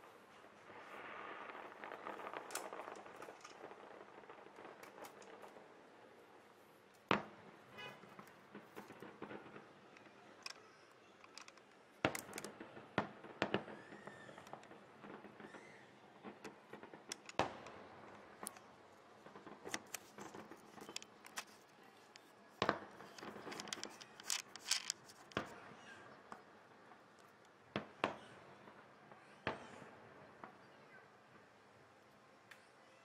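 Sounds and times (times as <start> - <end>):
distant fireworks bursting: 0.0 - 32.7.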